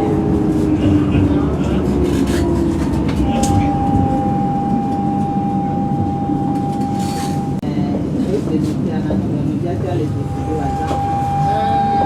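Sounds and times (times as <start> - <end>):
tram wheels rumbling: 0.0 - 12.0.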